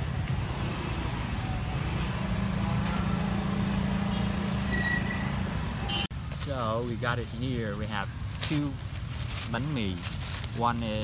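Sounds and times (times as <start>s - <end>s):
low rumble of traffic engines: 0.0s - 11.0s.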